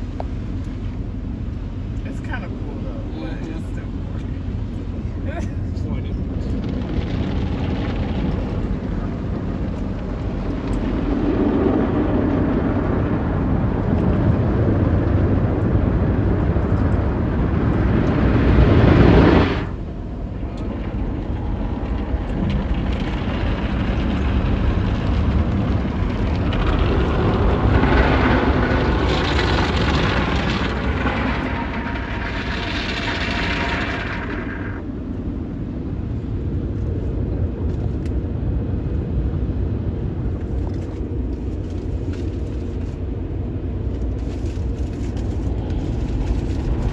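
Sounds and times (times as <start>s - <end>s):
car wash water spray and machinery: 0.0s - 46.9s.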